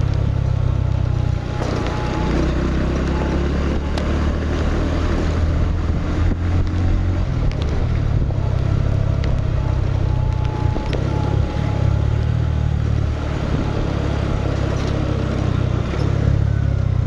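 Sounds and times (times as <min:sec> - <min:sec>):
constant rushing noise: 0:00.0 - 0:17.0
motorcycle engine droning: 0:00.0 - 0:17.0.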